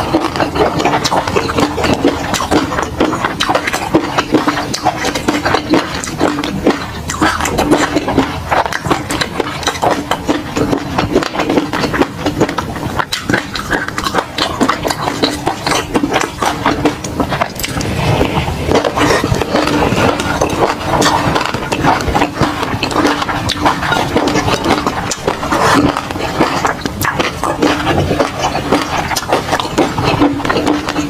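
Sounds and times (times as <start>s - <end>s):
wet chewing and lip-smacking: 0.0s - 31.0s.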